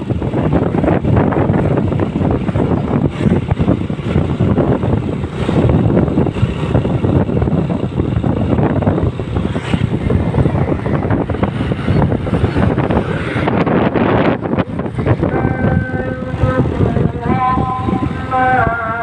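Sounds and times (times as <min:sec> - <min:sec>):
road and engine noise: 0:00.0 - 0:19.0
wind buffeting microphone: 0:00.0 - 0:19.0.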